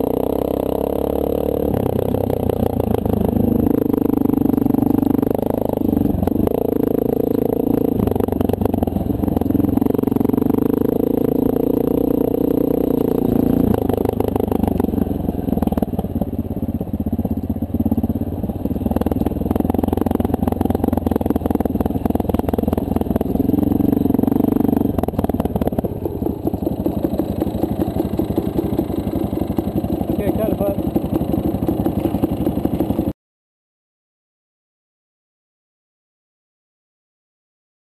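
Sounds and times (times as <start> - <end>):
motorcycle engine running: 0.0 - 33.2
motorcycle rattling over dirt: 0.0 - 33.2.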